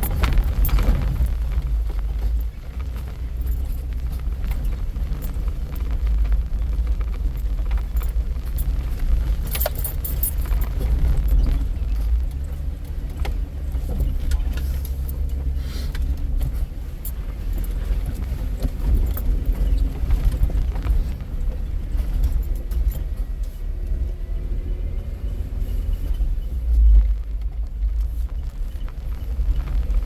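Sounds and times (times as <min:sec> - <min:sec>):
body rattles and knocks: 0:00.0 - 0:23.8, 0:26.1 - 0:30.0
vehicle engine and tyres rumbling: 0:00.0 - 0:30.0.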